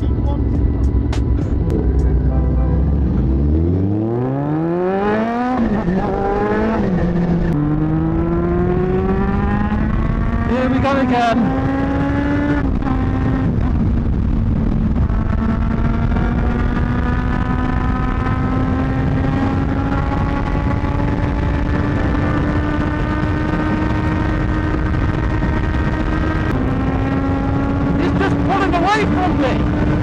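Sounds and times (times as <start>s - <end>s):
wind noise: 3.0s - 30.0s.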